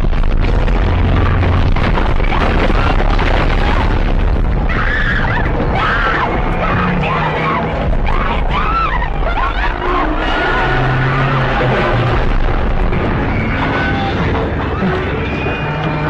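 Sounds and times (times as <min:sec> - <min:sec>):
deep boom: 0:00.0 - 0:15.5
rumbling din of destruction: 0:00.0 - 0:16.0
people screaming: 0:01.0 - 0:16.0.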